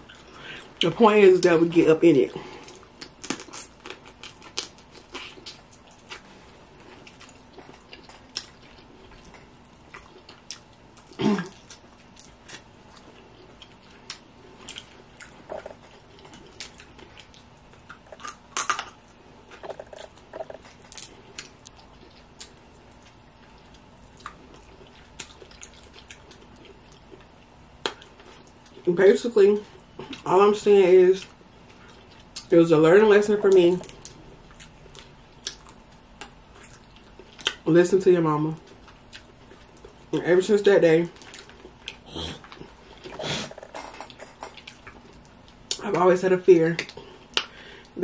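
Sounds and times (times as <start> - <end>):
chewing: 2.4 - 28.9, 31.2 - 32.5, 33.3 - 37.6, 38.6 - 40.2, 41.1 - 45.8.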